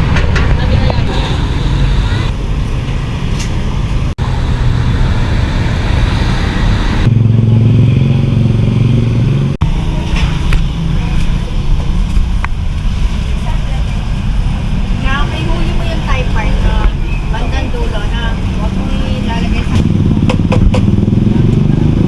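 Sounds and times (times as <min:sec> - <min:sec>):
vehicle engines running: 0:00.0 - 0:22.0.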